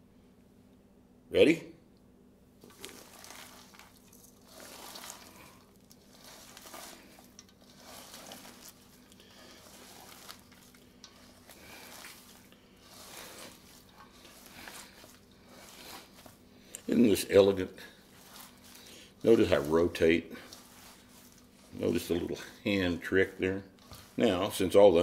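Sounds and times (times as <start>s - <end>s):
wet squishing of kneaded meat: 2.6s - 25.0s.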